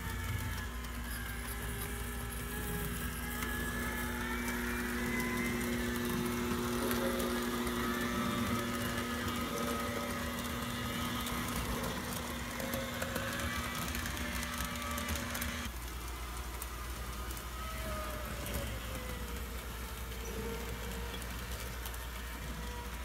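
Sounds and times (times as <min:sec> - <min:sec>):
model train motor hum: 0:00.0 - 0:23.0
wheels clicking on track: 0:00.0 - 0:23.0.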